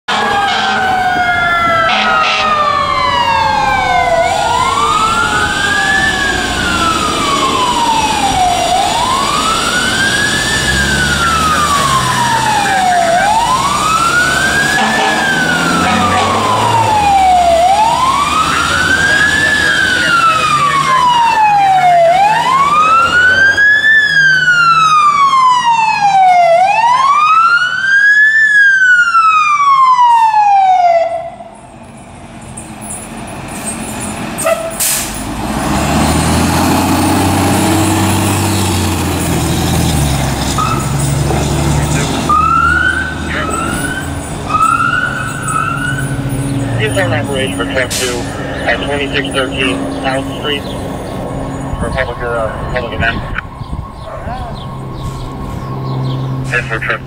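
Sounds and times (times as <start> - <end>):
lower siren tone sliding down: 0.1 - 31.6, 41.9 - 56.5
fire engine siren wailing: 0.1 - 57.0.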